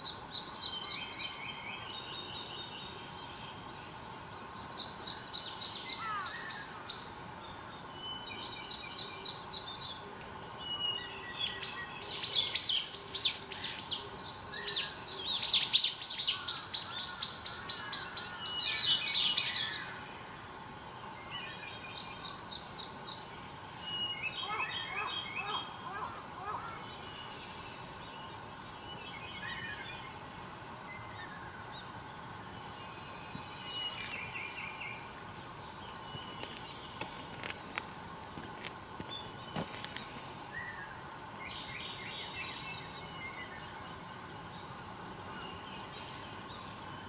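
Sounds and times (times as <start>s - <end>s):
songbirds singing: 0.0s - 47.0s.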